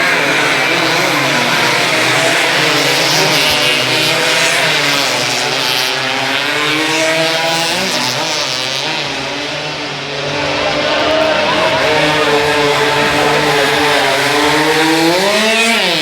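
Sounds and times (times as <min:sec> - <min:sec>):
motorcycle engines racing: 0:00.0 - 0:16.0.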